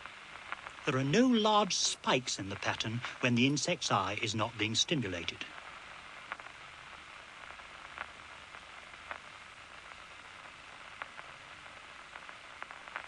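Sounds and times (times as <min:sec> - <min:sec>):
faint scattered clicks: 0:00.0 - 0:06.6, 0:07.4 - 0:13.0
steady hiss: 0:00.0 - 0:13.0.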